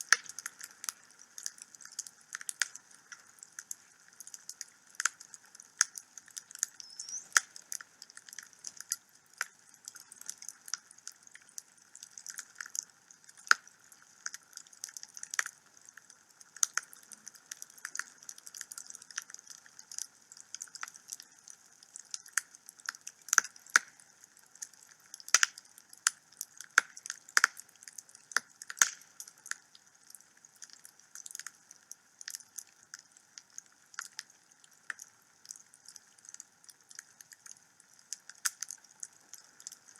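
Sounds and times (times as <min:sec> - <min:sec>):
wood fire crackling and popping: 0:00.0 - 0:24.0, 0:24.6 - 0:39.9
faint steady hiss: 0:00.0 - 0:39.9.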